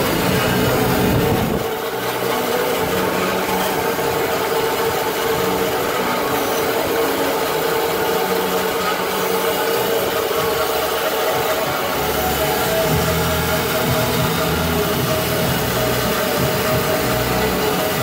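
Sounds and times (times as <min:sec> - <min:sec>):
band saw cutting machine whining: 0:00.0 - 0:18.0.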